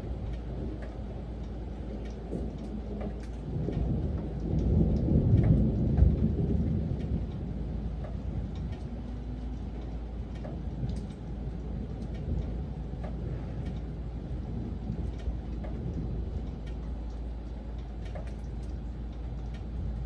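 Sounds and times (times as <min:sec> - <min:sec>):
low roll of thunder: 0:00.0 - 0:20.0
steady rain: 0:00.0 - 0:20.0.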